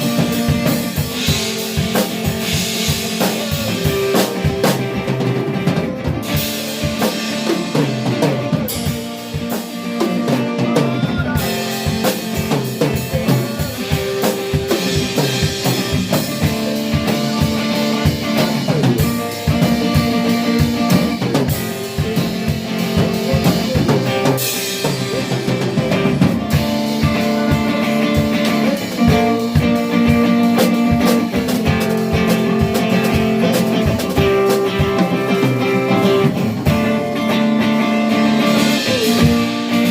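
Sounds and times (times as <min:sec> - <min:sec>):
drum kit playing a beat: 0:00.0 - 0:39.9
guitar chords: 0:00.0 - 0:39.9.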